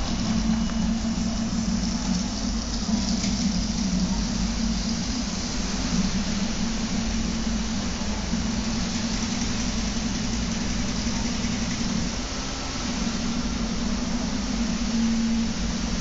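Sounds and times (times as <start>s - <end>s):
three d printer motors humming: 0.0s - 16.0s.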